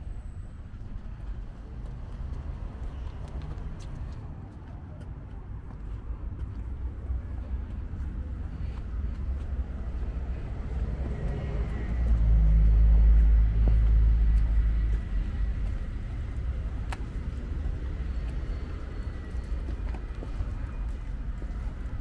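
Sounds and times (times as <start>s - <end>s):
outdoor traffic noise: 0.0s - 22.0s
vehicle passing: 0.9s - 22.0s.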